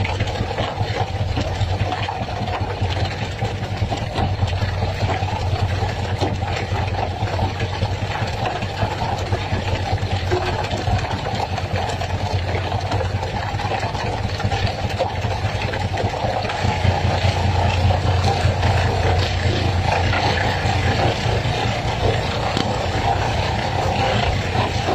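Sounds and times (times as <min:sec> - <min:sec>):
boat engine humming: 0:00.0 - 0:24.9.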